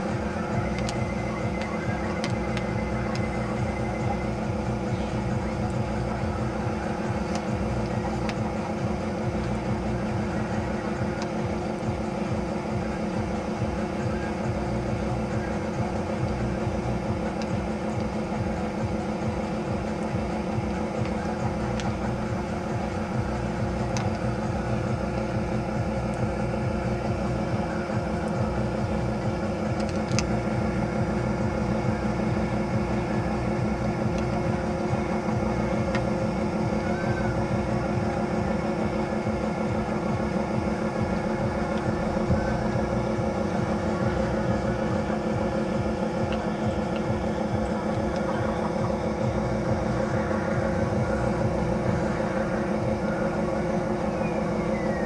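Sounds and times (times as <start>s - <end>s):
steady mechanical drone: 0.0s - 55.0s.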